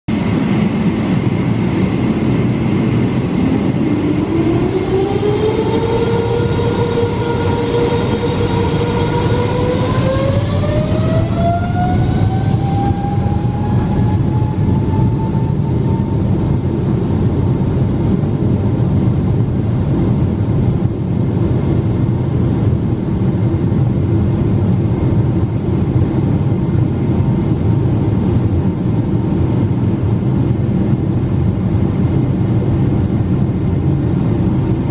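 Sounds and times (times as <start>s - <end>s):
jet engines whining: 0.1s - 34.9s
low rumble of aircraft rolling: 0.1s - 34.9s.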